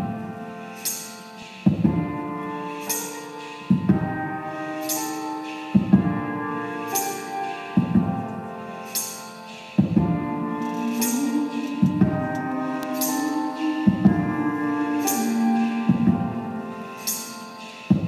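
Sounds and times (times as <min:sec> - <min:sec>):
electric keyboard chords: 0:00.0 - 0:18.0
slow looped beat: 0:00.0 - 0:18.0
bright high shimmer: 0:00.2 - 0:18.0.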